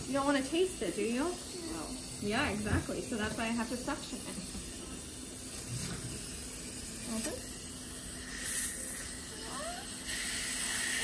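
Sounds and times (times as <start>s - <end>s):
dental suction hissing: 0.1s - 11.0s.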